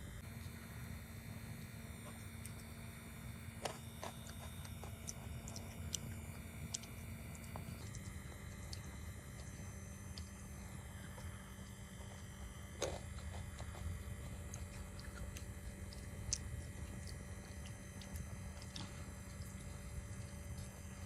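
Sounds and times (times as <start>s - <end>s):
low hum: 0.0s - 21.0s
wet mouth clicks and chewing: 4.0s - 21.0s.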